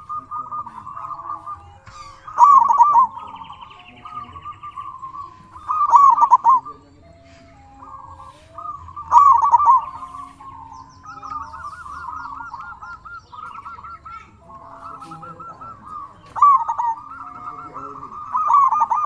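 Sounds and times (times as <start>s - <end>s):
dove cooing: 0.0s - 19.0s
high bird trill: 0.0s - 19.0s.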